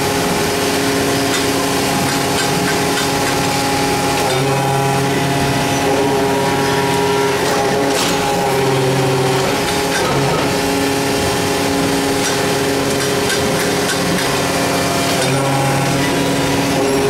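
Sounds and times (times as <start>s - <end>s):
press machine drone: 0.0s - 17.0s.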